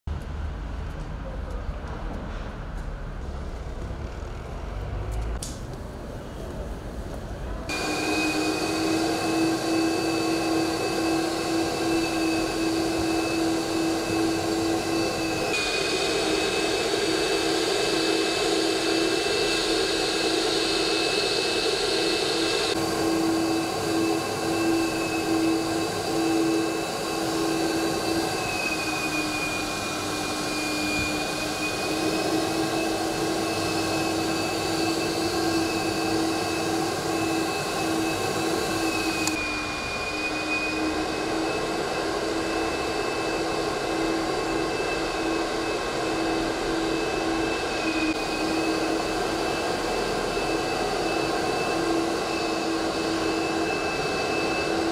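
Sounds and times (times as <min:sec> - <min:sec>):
vacuum motor whining: 0:07.7 - 0:54.9.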